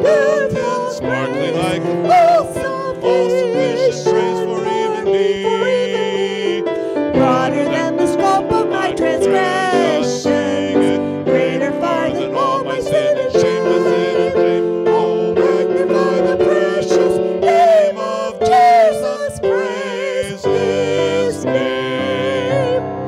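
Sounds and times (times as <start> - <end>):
held instrumental chords: 0.0 - 23.0
person singing with vibrato: 0.0 - 23.0.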